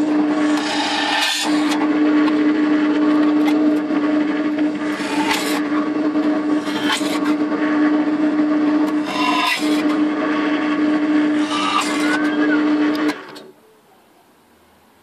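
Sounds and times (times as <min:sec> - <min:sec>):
drill bit grinding through metal: 0:00.0 - 0:13.4
drill press motor humming: 0:00.0 - 0:13.5.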